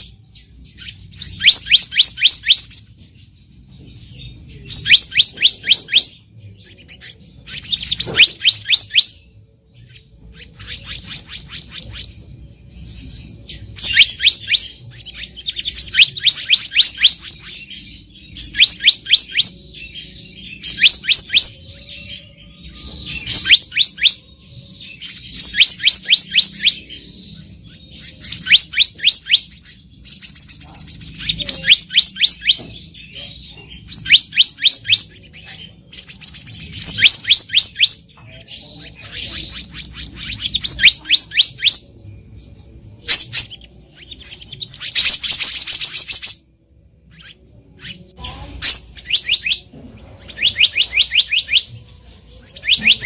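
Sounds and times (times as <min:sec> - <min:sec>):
bird calling with sharp high notes: 0:00.0 - 0:03.0, 0:03.9 - 0:53.0.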